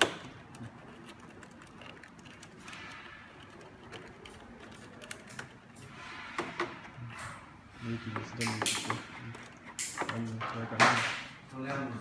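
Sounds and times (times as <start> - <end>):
handling noises: 0.0 - 12.0.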